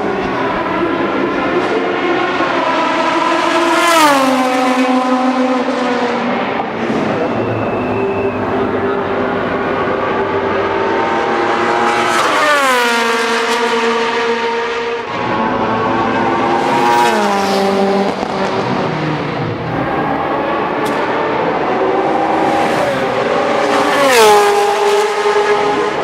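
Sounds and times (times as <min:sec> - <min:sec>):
racing car passing at full throttle: 0:00.0 - 0:26.0.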